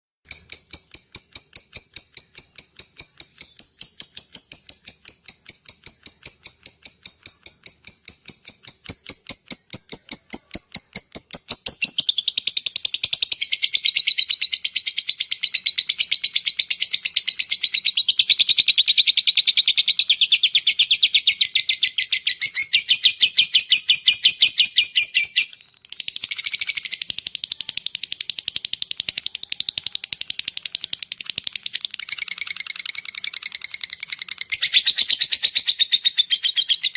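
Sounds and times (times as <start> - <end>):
lovebird chirping and trilling: 0.3 - 36.9.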